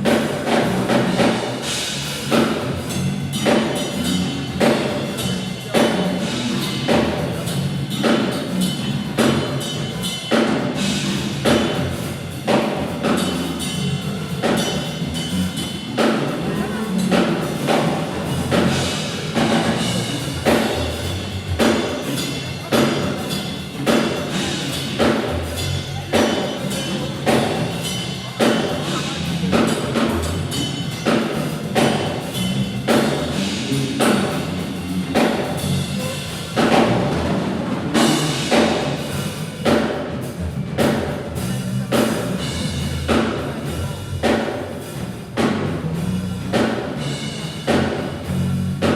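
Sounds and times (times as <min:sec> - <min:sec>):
drum kit playing steady rhythm: 0:00.0 - 0:48.9.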